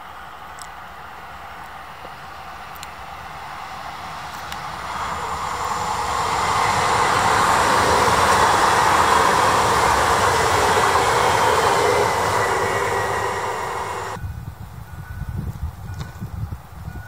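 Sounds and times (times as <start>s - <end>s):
train passing at speed: 0.0s - 14.3s.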